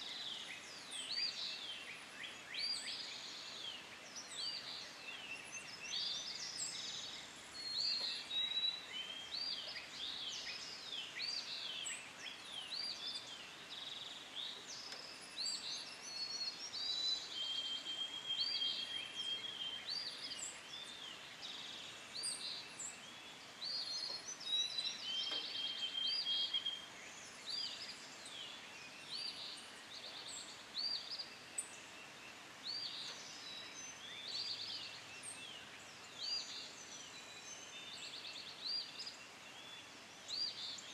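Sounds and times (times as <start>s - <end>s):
songbirds chirping and whistling: 0.0s - 40.9s.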